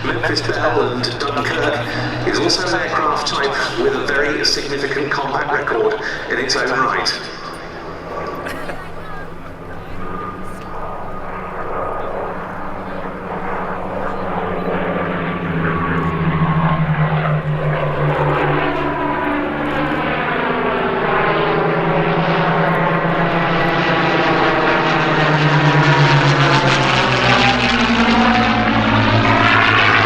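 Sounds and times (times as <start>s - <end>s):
propeller aircraft engine drone: 0.0s - 30.0s.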